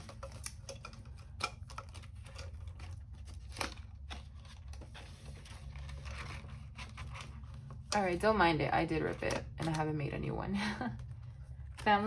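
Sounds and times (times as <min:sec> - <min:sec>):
banknotes rustling: 0:00.0 - 0:12.0.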